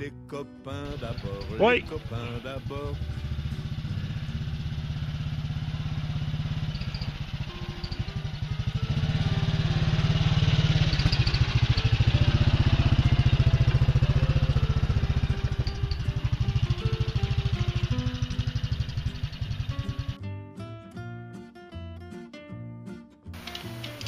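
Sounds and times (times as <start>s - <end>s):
atv engine pulsing: 0.8s - 20.2s, 23.4s - 24.0s.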